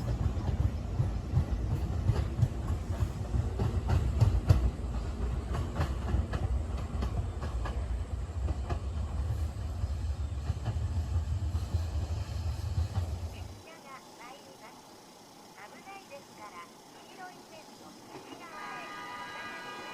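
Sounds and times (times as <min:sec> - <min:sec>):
electric train rumbling: 0:00.0 - 0:19.9.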